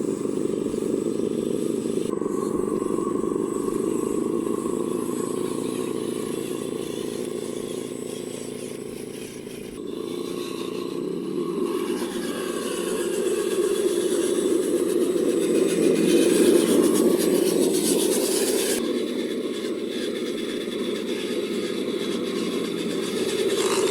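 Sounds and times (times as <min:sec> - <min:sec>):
electric motors whining: 0:00.0 - 0:23.9.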